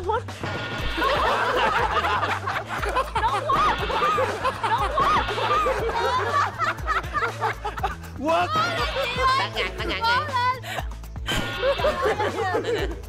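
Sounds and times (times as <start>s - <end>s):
background music: 0.0s - 13.0s
people laughing: 0.8s - 13.0s.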